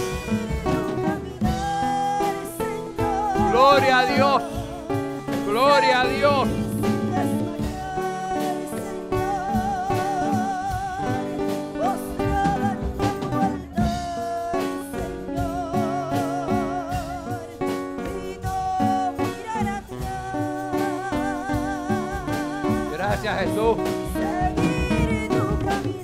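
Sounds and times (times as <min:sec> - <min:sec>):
instrumental accompaniment: 0:00.0 - 0:26.0
woman singing into microphone: 0:00.0 - 0:26.0.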